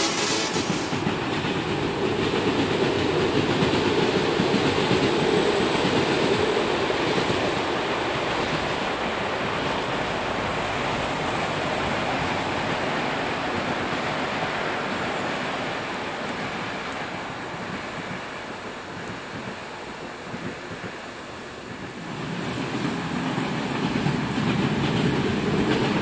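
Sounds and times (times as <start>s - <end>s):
passenger train running: 0.0s - 26.0s.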